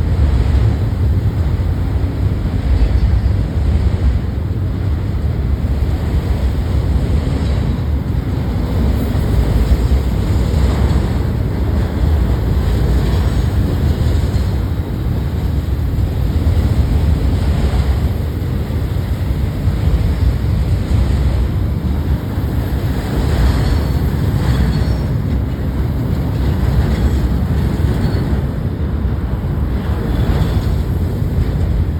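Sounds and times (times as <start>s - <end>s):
freight train rumbling past: 0.0s - 31.9s
wind buffeting microphone: 0.0s - 31.9s.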